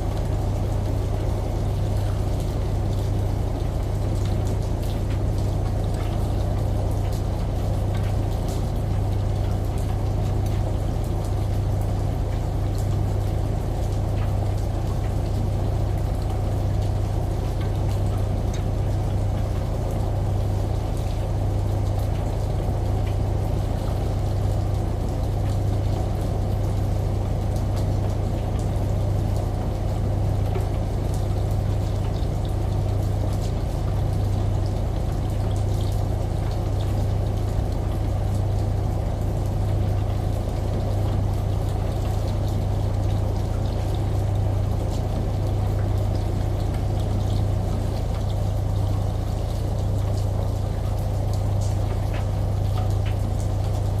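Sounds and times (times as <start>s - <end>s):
rain: 0.0s - 54.0s
shower water running: 0.0s - 54.0s
washing machine humming: 0.0s - 54.0s.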